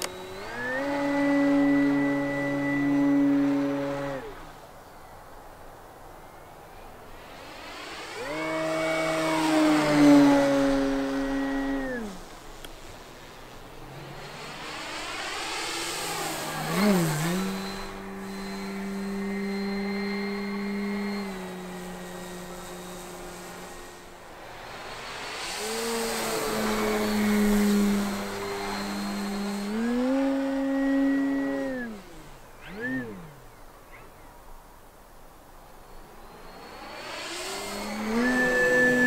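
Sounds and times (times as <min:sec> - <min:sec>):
model plane motor whining: 0:00.0 - 0:04.9, 0:07.0 - 0:34.2, 0:35.7 - 0:39.0.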